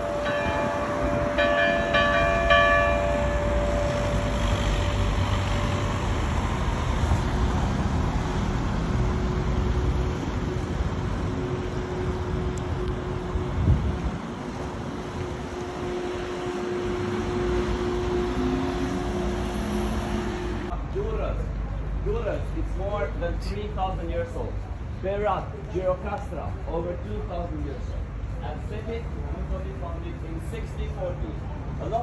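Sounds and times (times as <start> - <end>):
street traffic rumble: 0.0 - 32.0.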